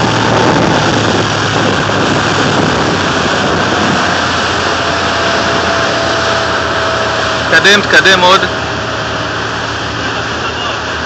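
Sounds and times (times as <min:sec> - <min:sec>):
hiss of wind and water: 0:00.0 - 0:11.0
motorboat engine running: 0:00.0 - 0:11.0.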